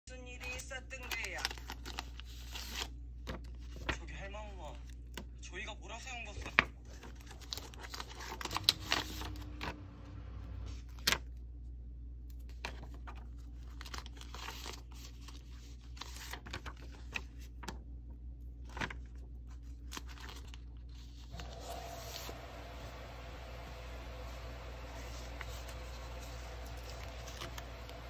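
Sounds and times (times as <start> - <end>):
plastic sleeves and paper rustling: 0.3 - 5.4, 6.2 - 9.9, 12.3 - 28.0.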